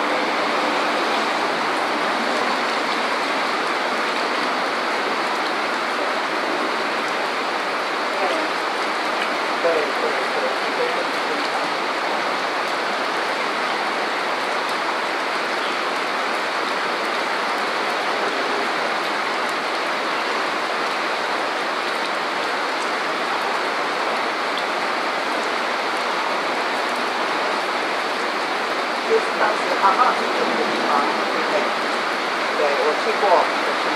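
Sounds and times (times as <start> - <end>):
heavy rain on street: 0.0 - 33.9.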